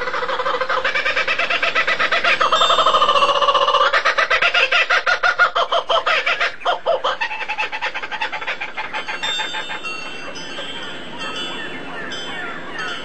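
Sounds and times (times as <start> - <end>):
bird clucking call: 0.0 - 13.0.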